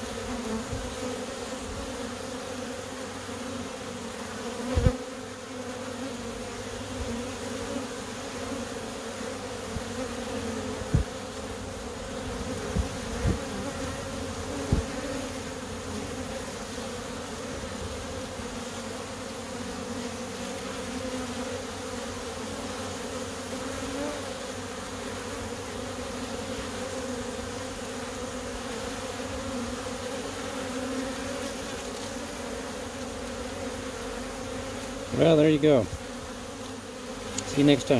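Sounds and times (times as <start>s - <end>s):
bees humming: 0.0s - 37.9s.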